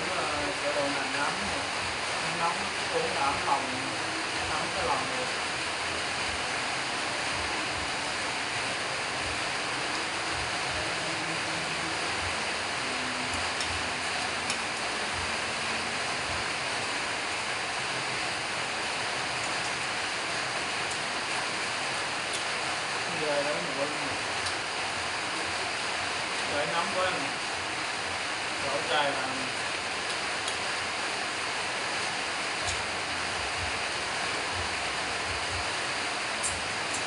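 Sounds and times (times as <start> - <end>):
steady background hiss: 0.0 - 37.0.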